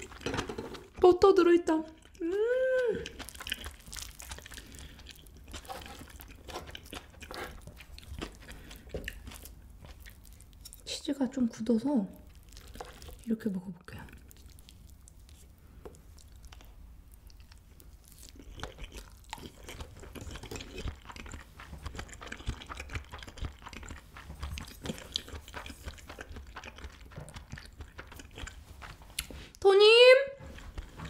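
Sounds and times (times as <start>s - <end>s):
person chewing: 0.0s - 1.0s, 1.8s - 10.9s, 12.2s - 13.3s, 14.0s - 29.6s, 30.5s - 31.0s.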